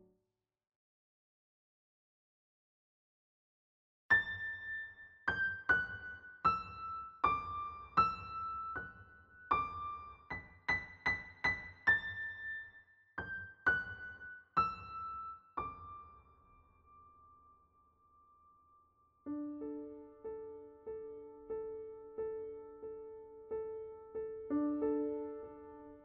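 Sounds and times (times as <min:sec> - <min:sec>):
slow solo piano melody: 0:04.1 - 0:26.0.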